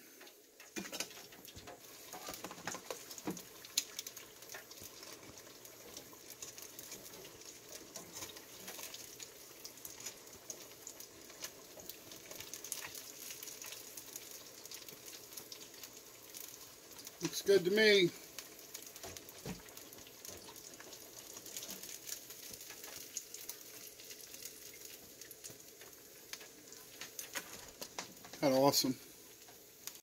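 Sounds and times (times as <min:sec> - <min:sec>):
fish sizzling in deep fryer: 0:00.0 - 0:30.0
oil popping and crackling: 0:00.0 - 0:30.0.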